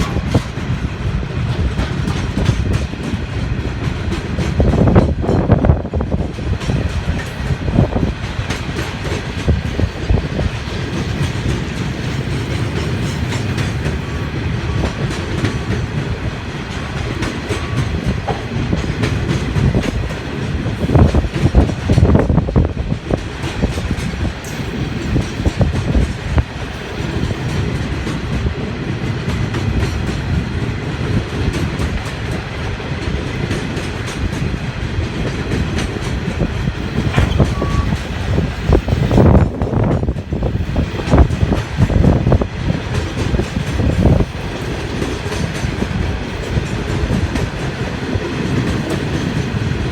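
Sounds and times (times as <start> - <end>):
train wheels clattering over rail joints: 0.0 - 49.9.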